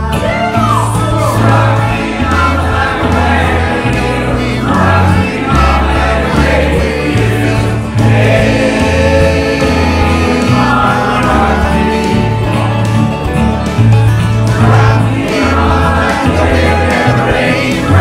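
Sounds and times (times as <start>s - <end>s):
backing track with bass line: 0.0s - 18.0s.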